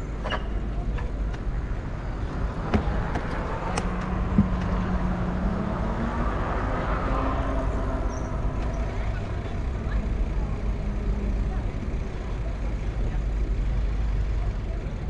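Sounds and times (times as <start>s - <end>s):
bicycle rumble: 0.0s - 15.0s.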